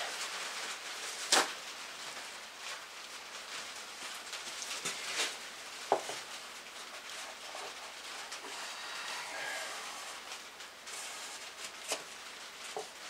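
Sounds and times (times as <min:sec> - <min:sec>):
faint rustling: 0:00.0 - 0:13.0.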